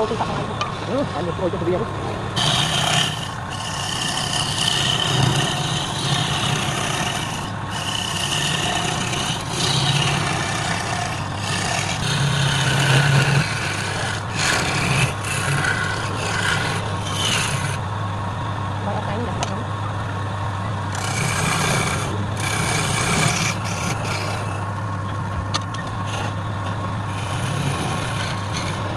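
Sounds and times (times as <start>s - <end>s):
lathe motor hum: 0.0s - 19.2s, 19.8s - 28.9s
tool scraping spinning wood: 2.4s - 17.9s, 20.9s - 28.9s.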